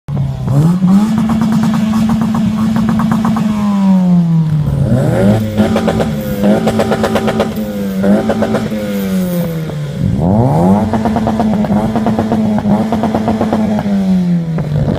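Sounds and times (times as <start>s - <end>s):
car engine revving to limiter: 0.1s - 14.9s.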